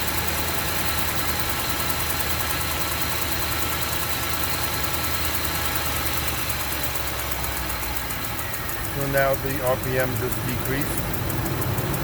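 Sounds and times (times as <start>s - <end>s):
car engine idling: 0.0s - 12.0s
rapid engine ticking: 0.0s - 12.0s.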